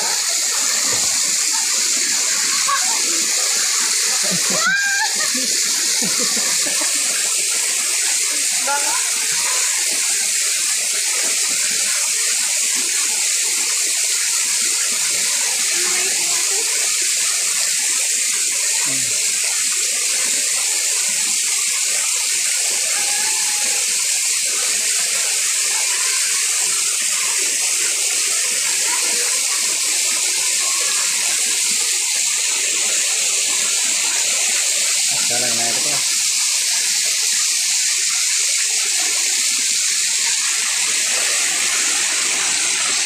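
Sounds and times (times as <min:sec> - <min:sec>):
waterfall pouring over rocks: 0:00.0 - 0:43.0.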